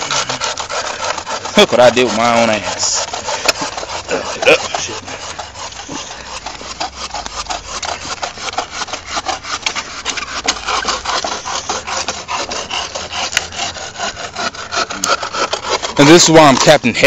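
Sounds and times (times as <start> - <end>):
bow saw cutting wood: 0.0 - 17.0.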